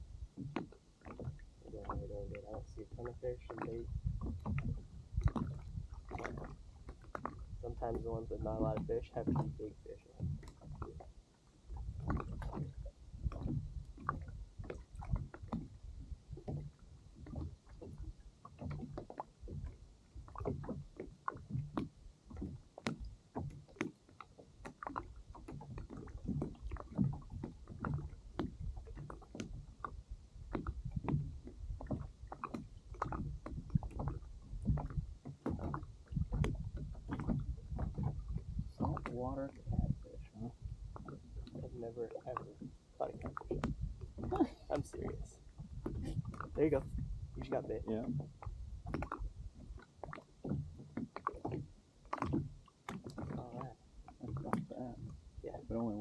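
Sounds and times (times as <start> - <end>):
water sloshing against kayak hull: 0.0 - 56.0.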